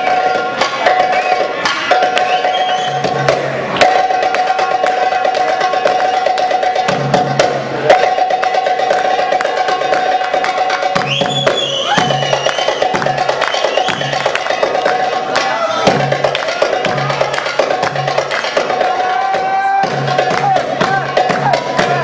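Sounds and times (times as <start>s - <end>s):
goblet drum solo: 0.0s - 22.0s.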